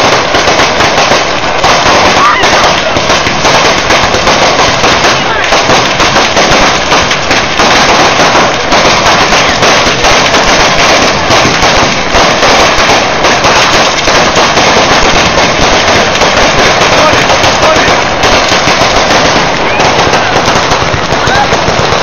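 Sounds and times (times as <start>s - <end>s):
firecrackers exploding: 0.0s - 22.0s.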